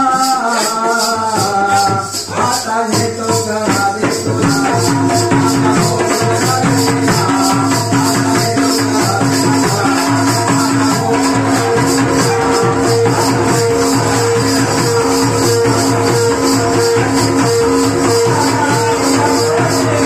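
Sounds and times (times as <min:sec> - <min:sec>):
man singing folk song: 0:00.0 - 0:16.4
drum beat: 0:00.0 - 0:20.0
fast jingling rhythm: 0:00.0 - 0:20.0.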